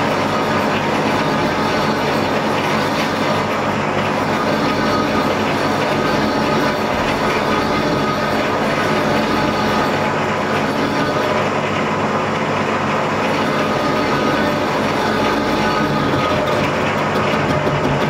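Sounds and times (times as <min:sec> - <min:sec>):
lathe whirring and rattling: 0:00.0 - 0:18.0.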